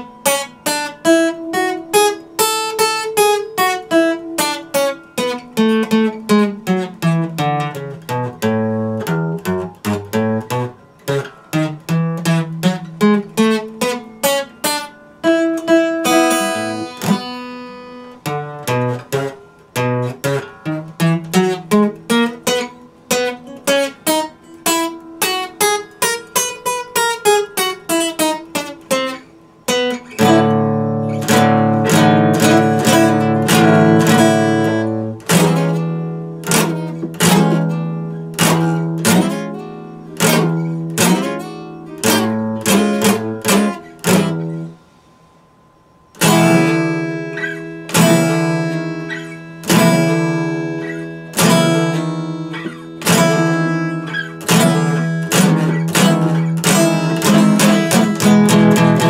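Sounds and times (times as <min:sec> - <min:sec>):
fingerpicked acoustic guitar: 0:00.0 - 0:59.0.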